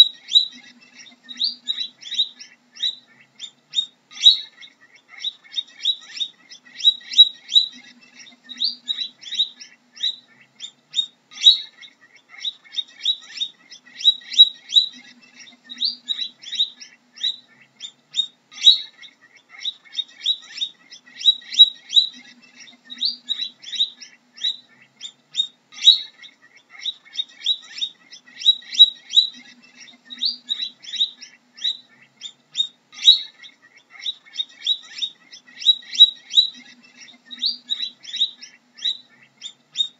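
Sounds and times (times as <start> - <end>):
guinea pig squeaking: 0.0 - 39.9.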